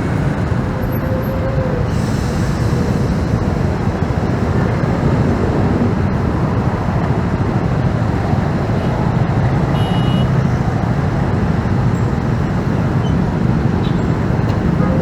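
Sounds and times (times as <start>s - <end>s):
surrounding traffic: 0.0s - 15.0s
wind rush on microphone: 0.0s - 15.0s.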